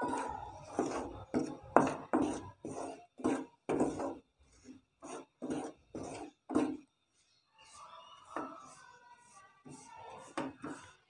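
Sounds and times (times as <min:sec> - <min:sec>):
spoon scraping a pan: 0:00.0 - 0:11.0.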